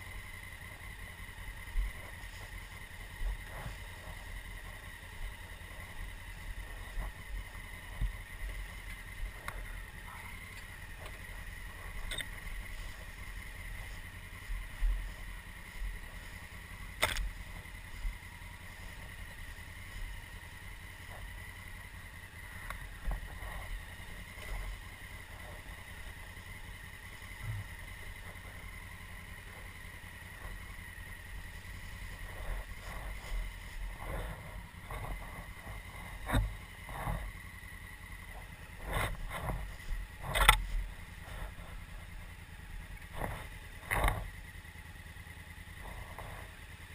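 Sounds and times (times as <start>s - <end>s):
motorcycle engine running low: 0.0s - 46.9s
motorcycle knocks and rattles: 0.0s - 46.9s.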